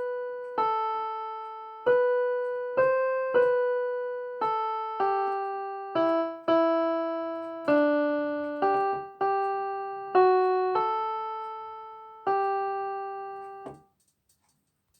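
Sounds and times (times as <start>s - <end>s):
slow piano melody: 0.0s - 13.9s.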